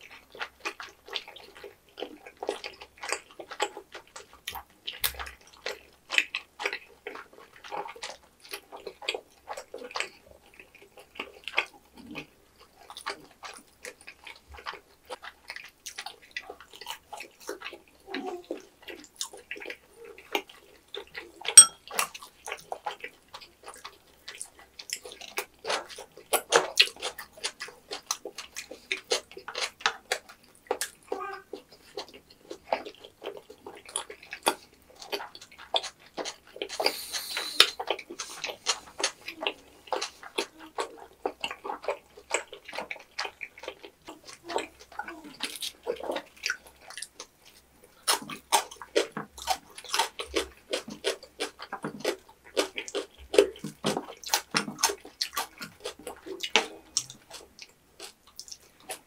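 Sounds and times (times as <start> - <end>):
chewing mouth sounds: 0.0 - 59.0.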